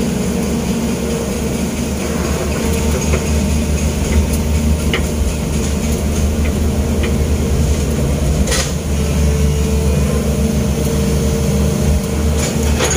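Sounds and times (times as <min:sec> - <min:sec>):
diesel engine drone: 0:00.0 - 0:12.9.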